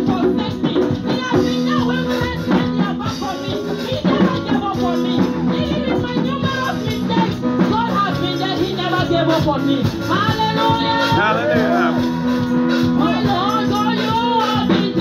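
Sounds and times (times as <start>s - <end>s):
instrumental music: 0.0s - 15.0s
shaker percussion: 0.0s - 15.0s
woman singing into a microphone: 0.0s - 15.0s.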